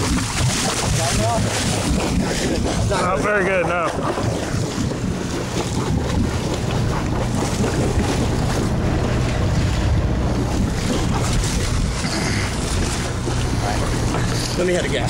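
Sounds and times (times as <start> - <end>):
boat engine droning: 0.0 - 15.0
sea water washing: 0.0 - 15.0
wind buffeting microphone: 0.0 - 15.0.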